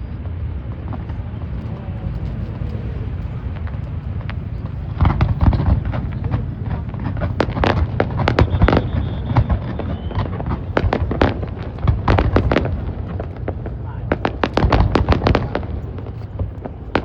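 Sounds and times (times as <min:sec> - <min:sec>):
fireworks bangs and crackling: 0:00.1 - 0:17.0.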